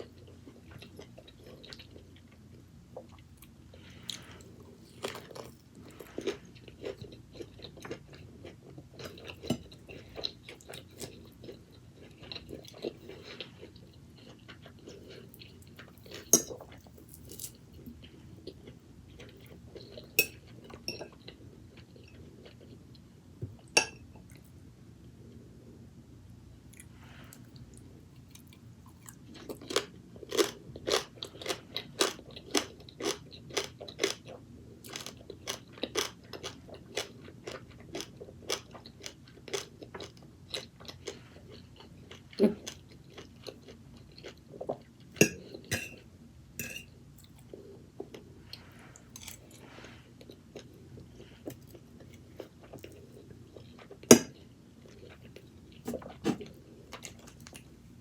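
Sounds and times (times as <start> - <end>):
chewing crunchy food: 0.0 - 24.6, 26.7 - 58.0.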